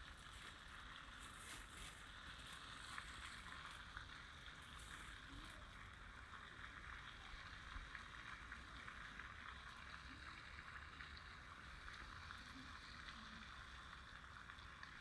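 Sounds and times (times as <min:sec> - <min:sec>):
faint trickling water: 0:00.0 - 0:15.0.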